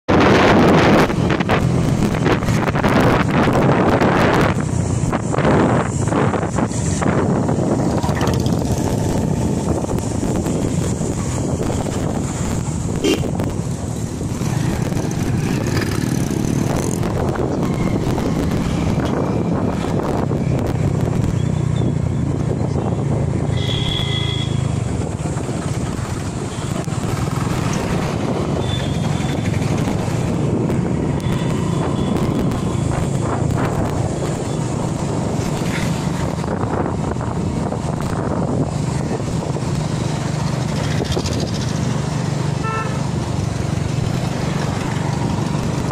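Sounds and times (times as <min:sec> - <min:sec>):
traffic: 0:00.0 - 0:45.9
motorcycle engine running: 0:00.7 - 0:22.1, 0:23.0 - 0:45.9.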